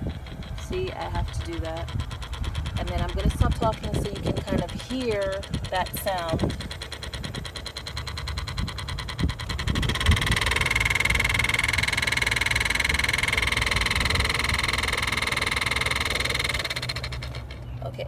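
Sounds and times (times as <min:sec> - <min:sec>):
blower motor whining with flutter: 0:00.0 - 0:18.0.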